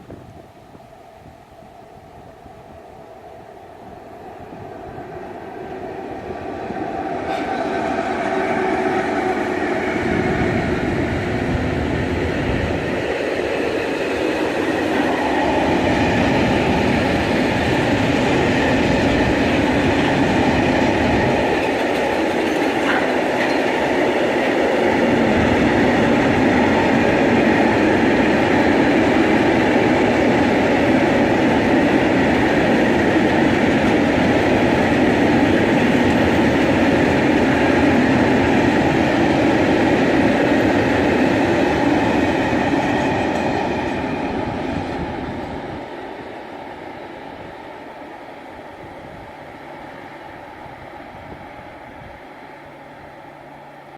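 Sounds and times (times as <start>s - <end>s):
freight train wheels rumbling on rails: 0.0s - 53.9s.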